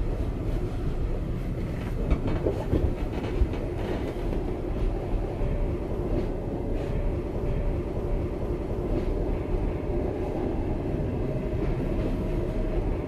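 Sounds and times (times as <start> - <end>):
train carriage rumbling on track: 0.0 - 13.0.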